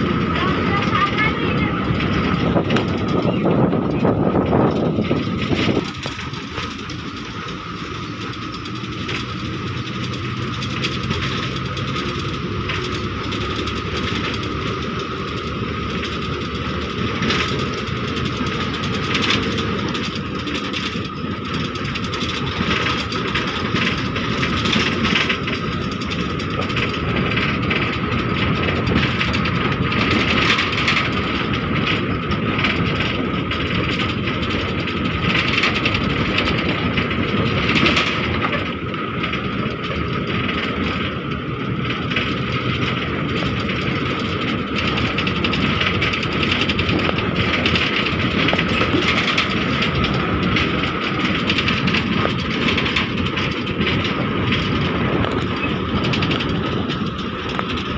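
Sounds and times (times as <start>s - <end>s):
bus engine and road rumble: 0.0s - 57.9s
steady whine: 0.0s - 57.9s
wind noise: 0.0s - 57.9s.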